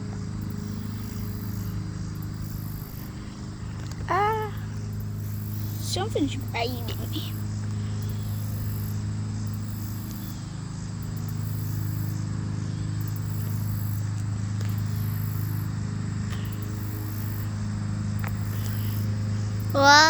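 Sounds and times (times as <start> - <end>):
insects trilling: 0.0 - 20.0
steady low hum: 0.0 - 20.0.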